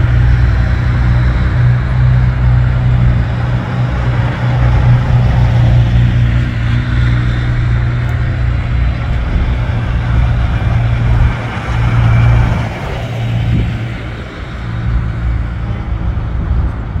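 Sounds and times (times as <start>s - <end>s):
diesel trucks rumbling past: 0.0s - 17.0s.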